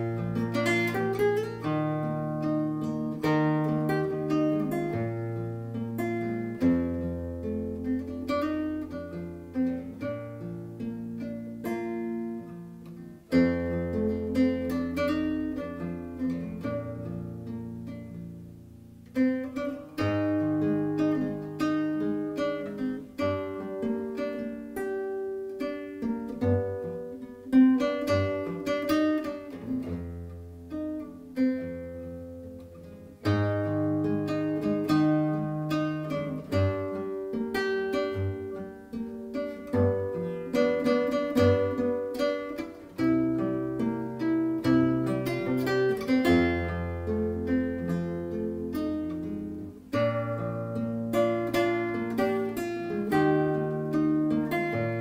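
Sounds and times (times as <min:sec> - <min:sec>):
classical guitar fingerstyle: 0:00.0 - 0:55.0.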